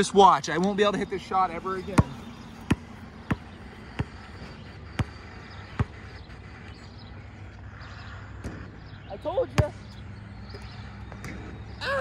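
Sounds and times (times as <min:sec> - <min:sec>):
basketball bouncing on asphalt: 0:00.6 - 0:07.3, 0:07.9 - 0:11.8.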